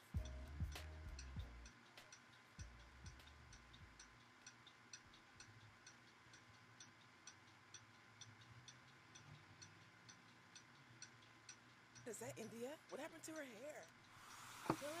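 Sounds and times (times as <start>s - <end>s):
clock ticking faintly: 0.0s - 15.0s.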